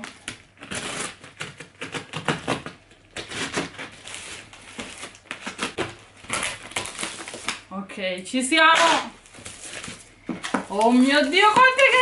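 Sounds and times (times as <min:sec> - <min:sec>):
tape and plastic wrap tearing: 0:00.0 - 0:07.7, 0:08.6 - 0:12.0.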